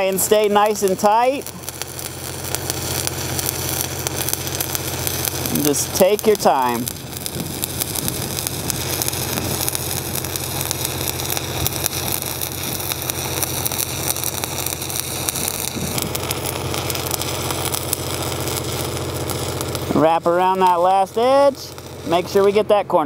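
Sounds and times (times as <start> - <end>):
welding arc crackling: 0.0 - 23.0
welding machine engine hum: 0.0 - 23.0.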